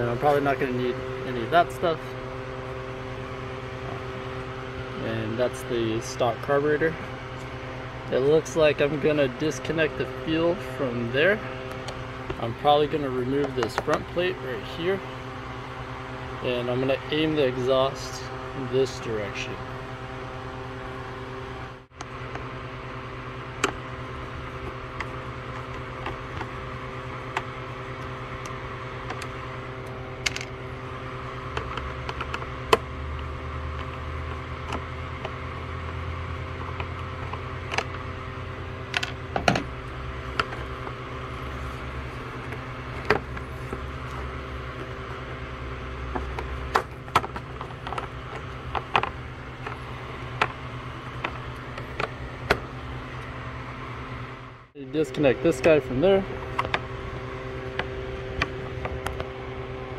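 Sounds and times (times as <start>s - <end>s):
steady background hum: 0.0s - 59.9s.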